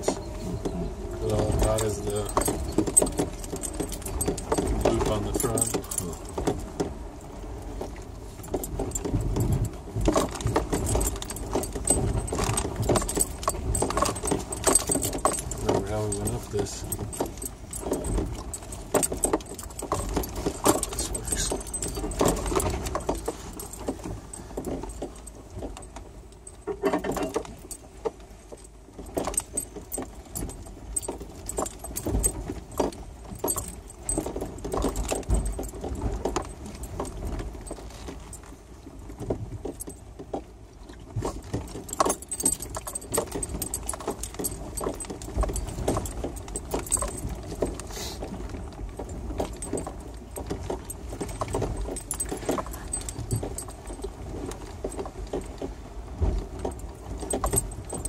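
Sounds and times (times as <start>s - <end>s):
engine and tyre rumble: 0.0s - 58.0s
rattling and clinking in vehicle cab: 0.0s - 58.0s.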